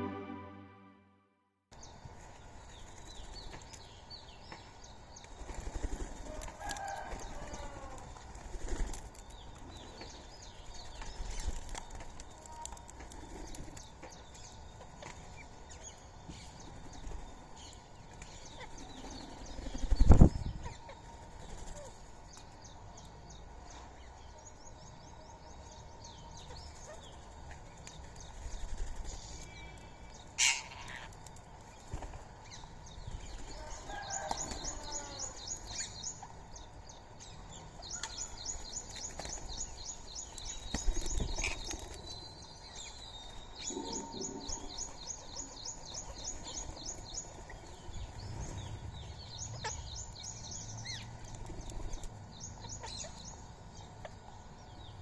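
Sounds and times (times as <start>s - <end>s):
birds chirping and calling: 1.8s - 55.0s.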